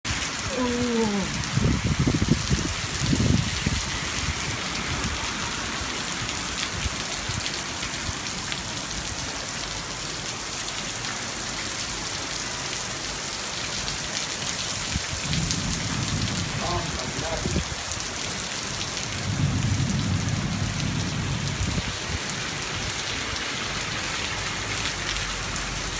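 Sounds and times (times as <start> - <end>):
heavy rain pouring: 0.1 - 25.9.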